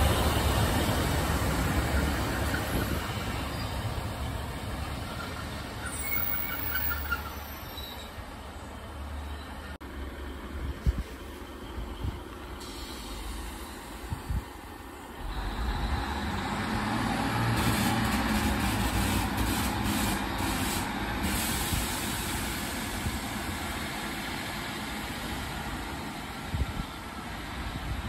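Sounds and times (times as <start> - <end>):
diesel train engines pulling away: 0.0 - 28.0.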